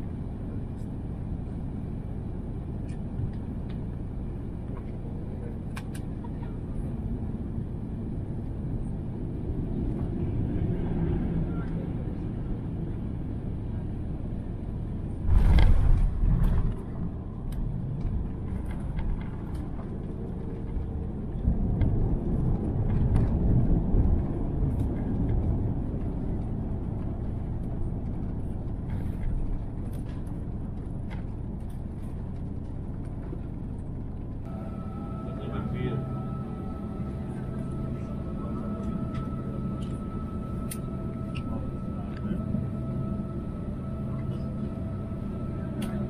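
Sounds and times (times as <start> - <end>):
aircraft cabin rumble: 0.0 - 46.0.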